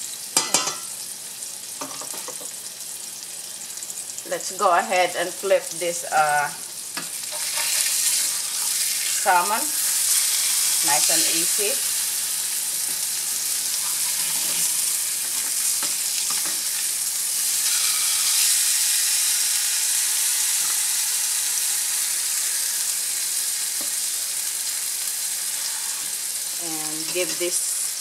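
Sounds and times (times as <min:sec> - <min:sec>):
fish sizzling in oil: 0:00.0 - 0:28.0.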